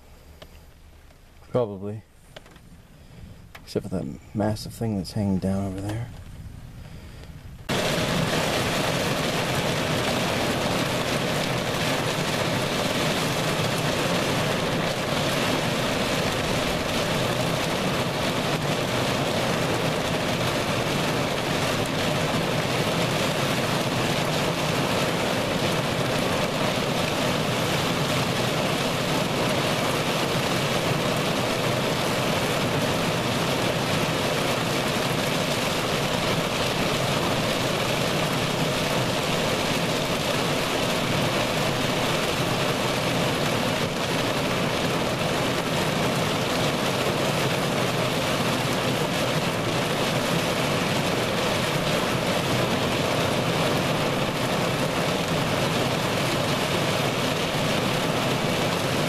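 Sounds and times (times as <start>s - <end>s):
heavy rain on a car roof: 7.6s - 59.0s.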